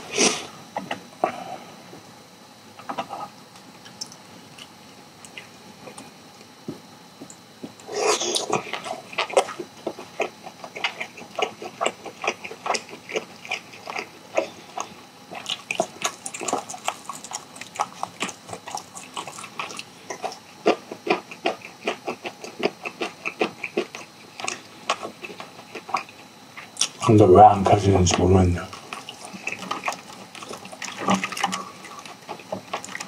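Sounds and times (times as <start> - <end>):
person chewing wetly: 2.8 - 6.5, 7.2 - 27.1, 28.1 - 33.0.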